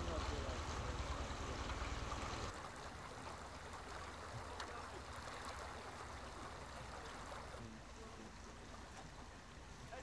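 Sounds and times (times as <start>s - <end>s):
soft steady hiss: 0.0s - 10.0s.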